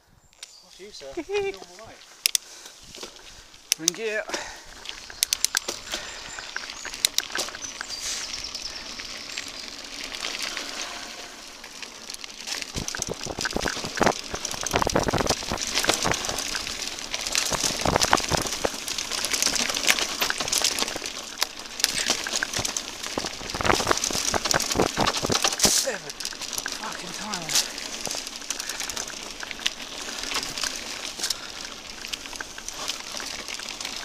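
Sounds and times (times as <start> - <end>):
bike tyres on dirt: 0.0 - 34.0
bike clicks and rattles: 1.4 - 34.0.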